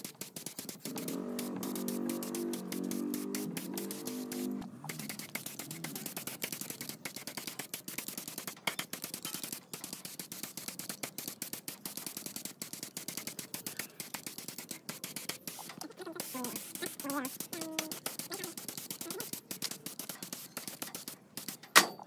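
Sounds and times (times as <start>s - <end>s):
spray gun hissing: 0.0s - 21.8s
rattle of sharp clicks: 0.1s - 22.0s.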